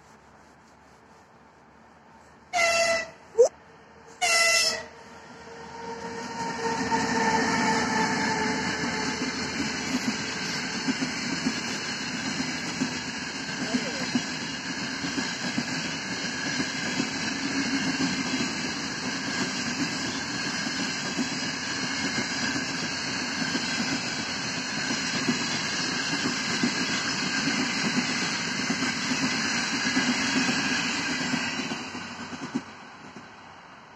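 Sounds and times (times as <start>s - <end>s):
train wheels rumbling on rail: 4.2s - 33.9s.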